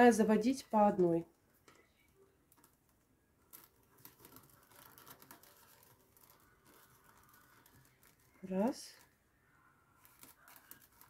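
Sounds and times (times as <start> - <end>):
paper tubes rustling and scratching: 0.4 - 11.0.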